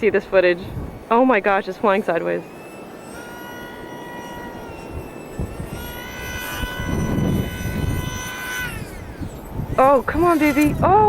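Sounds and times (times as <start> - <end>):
electric motor whining: 0.0 - 11.0
wind buffeting microphone: 0.0 - 11.0.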